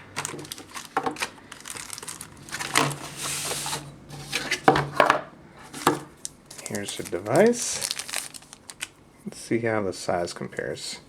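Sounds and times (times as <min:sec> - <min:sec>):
packaging crinkling and rustling: 0:00.0 - 0:09.0.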